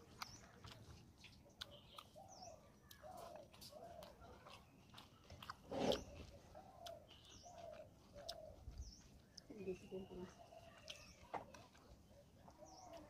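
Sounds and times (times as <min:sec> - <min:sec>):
chewing with wet smacks: 0:00.0 - 0:13.0.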